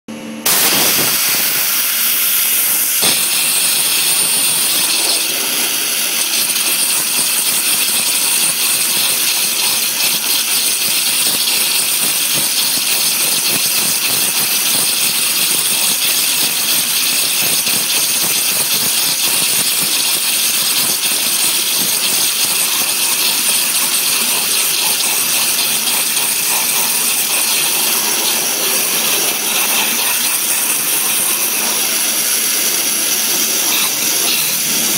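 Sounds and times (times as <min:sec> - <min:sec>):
water jet high-pitched hiss: 0:00.5 - 0:34.9.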